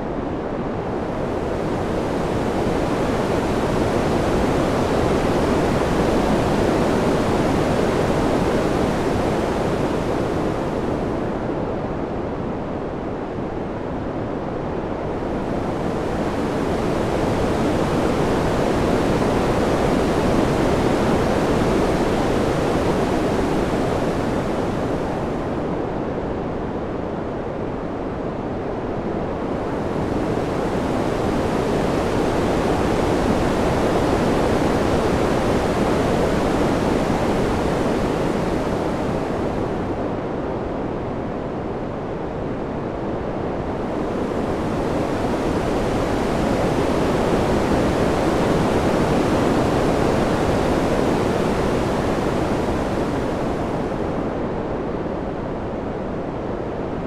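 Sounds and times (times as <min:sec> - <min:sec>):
rushing wind: 0:00.0 - 0:57.0.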